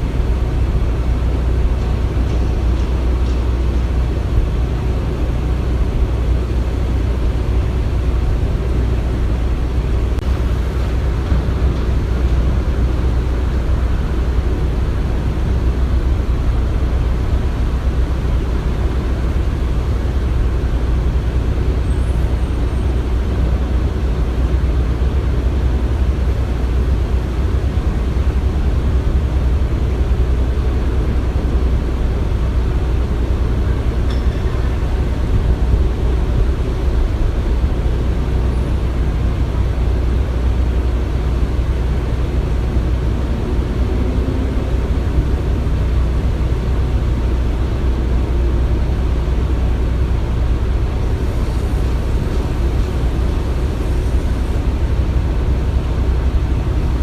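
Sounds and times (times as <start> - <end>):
heavy machinery engine rumble: 0.0 - 57.0.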